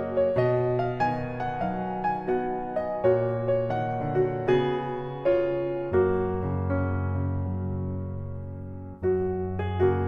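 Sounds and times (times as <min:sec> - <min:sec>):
soft slow piano music: 0:00.0 - 0:10.0.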